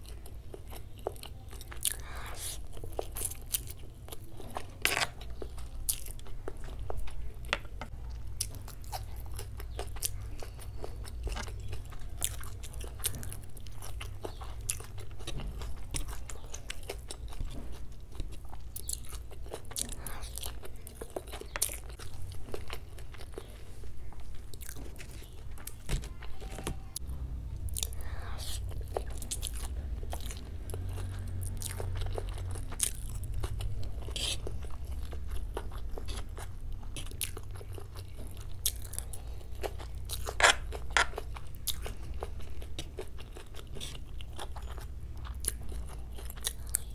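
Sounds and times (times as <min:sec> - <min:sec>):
wet chewing crunches: 0:00.0 - 0:27.0, 0:27.6 - 0:46.9
low steady hum: 0:00.0 - 0:46.9.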